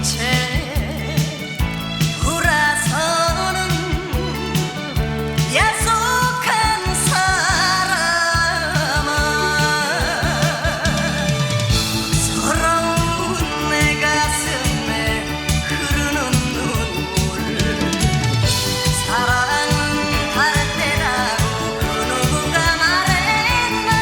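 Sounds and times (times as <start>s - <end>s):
instrumental backing music: 0.0s - 24.0s
person singing with vibrato: 0.0s - 24.0s.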